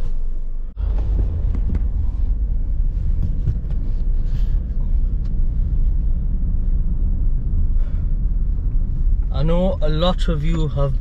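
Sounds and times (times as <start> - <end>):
car driving low rumble: 0.0 - 11.0.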